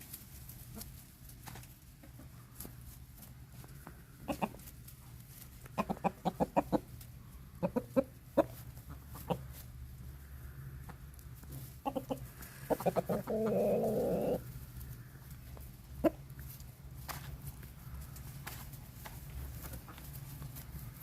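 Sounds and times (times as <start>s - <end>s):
chickens clucking: 0.6s - 21.0s.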